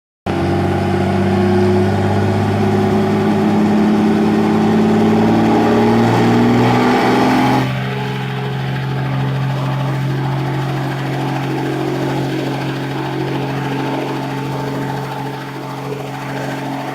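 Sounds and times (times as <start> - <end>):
helicopter engine and rotor: 0.3 - 16.9.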